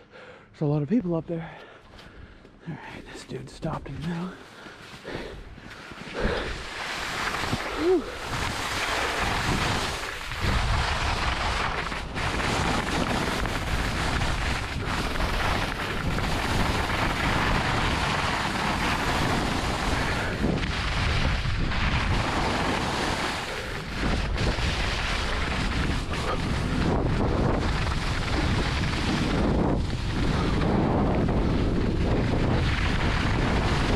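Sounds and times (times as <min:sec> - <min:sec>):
skis carving on snow: 0:03.6 - 0:33.9
wind on microphone: 0:06.2 - 0:33.9.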